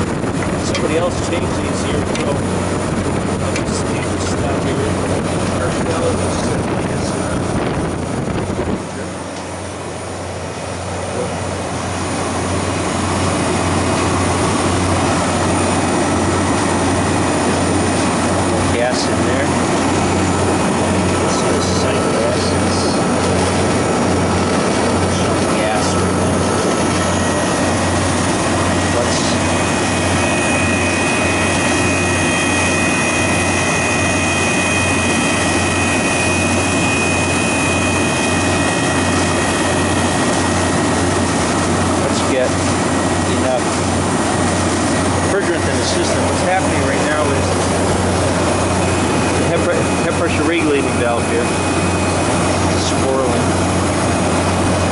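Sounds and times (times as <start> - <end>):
compressor hum: 0.0 - 54.9
condenser fan rushing air: 0.0 - 54.9.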